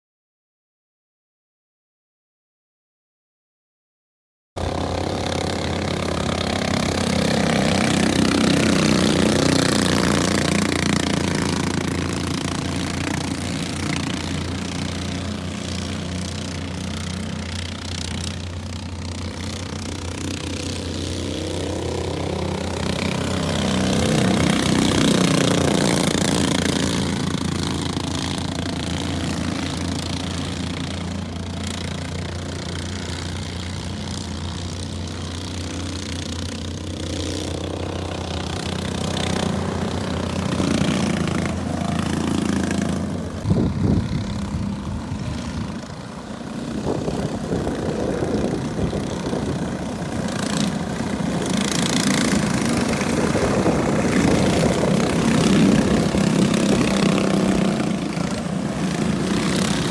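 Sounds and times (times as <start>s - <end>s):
small race car engines passing: 4.6s - 59.9s.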